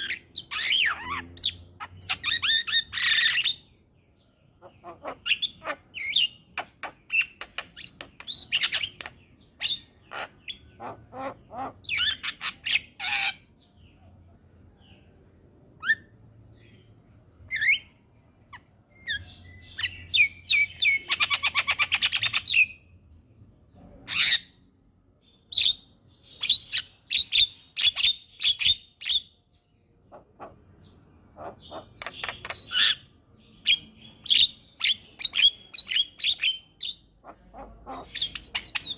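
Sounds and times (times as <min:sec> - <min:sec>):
birds chirping and whistling: 0:00.0 - 0:14.0, 0:15.8 - 0:24.6, 0:25.2 - 0:38.9.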